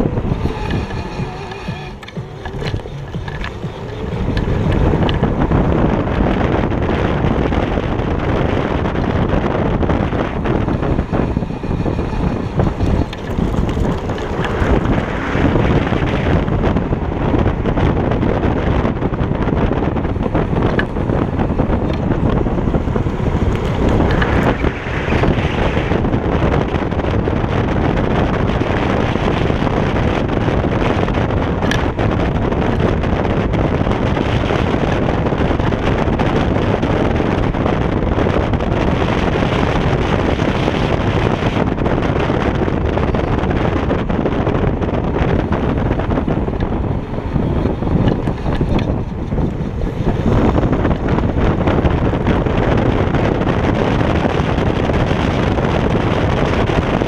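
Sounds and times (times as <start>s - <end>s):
tyre rumble on asphalt: 0.0s - 57.0s
wind buffeting microphone: 0.0s - 57.0s.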